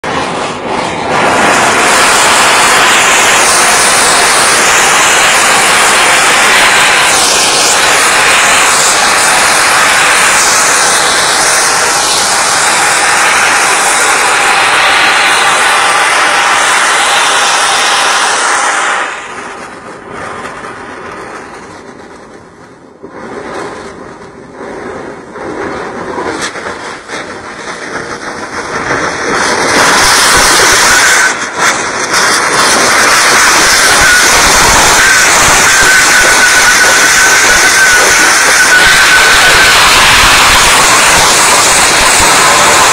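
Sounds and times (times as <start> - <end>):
gas rushing with jet-like hiss: 0.0 - 22.2, 23.1 - 42.9
thin steady whistle: 0.6 - 21.9, 26.4 - 42.9.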